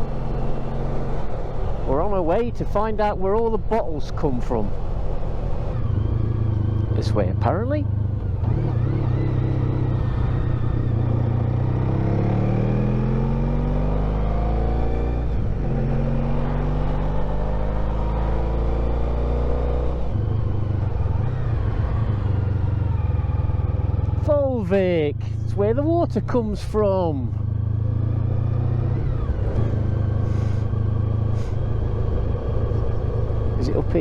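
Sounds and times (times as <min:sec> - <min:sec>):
motorcycle engine accelerating: 0:00.0 - 0:34.0
road rumble: 0:00.0 - 0:34.0.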